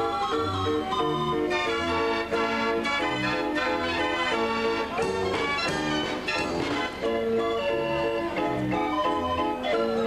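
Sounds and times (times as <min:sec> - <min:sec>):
street organ playing a tune: 0:00.0 - 0:10.0.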